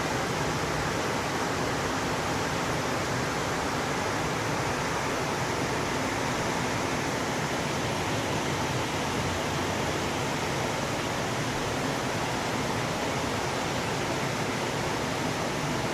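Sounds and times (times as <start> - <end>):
heavy rain pouring: 0.0 - 15.9.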